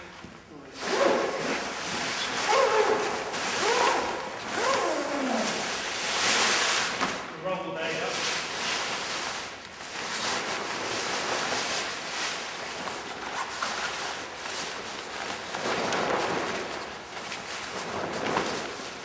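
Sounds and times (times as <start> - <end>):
nylon bag rustling: 0.0 - 19.0.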